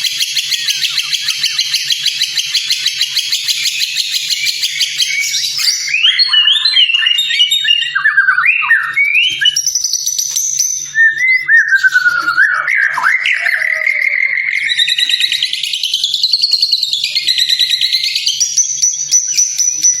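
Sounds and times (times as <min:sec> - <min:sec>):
songbird singing whistled phrases: 0:00.0 - 0:20.0.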